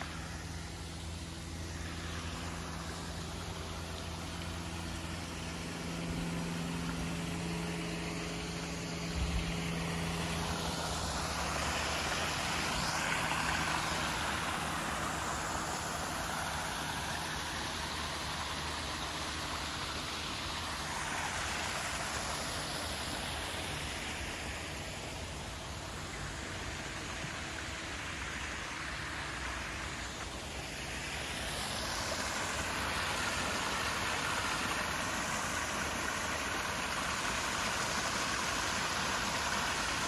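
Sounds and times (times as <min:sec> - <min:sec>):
low steady hum: 0:00.0 - 0:40.0
waterfall and stream rushing: 0:00.0 - 0:40.0.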